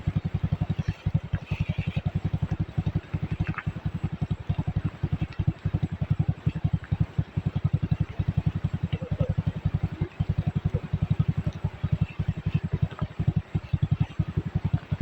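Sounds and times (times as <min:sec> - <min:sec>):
small engine putt-putting: 0:00.0 - 0:15.0.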